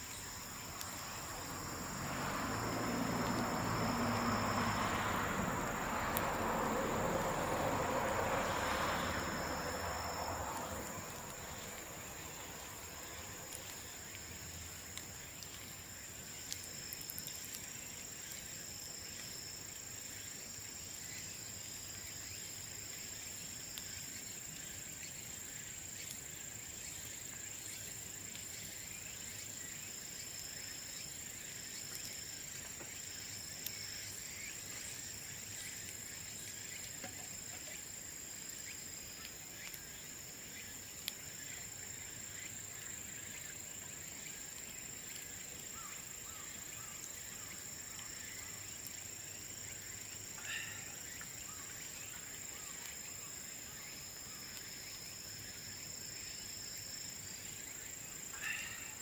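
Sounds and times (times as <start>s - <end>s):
insect chirping call: 0.0s - 59.0s
insects trilling: 0.0s - 59.0s.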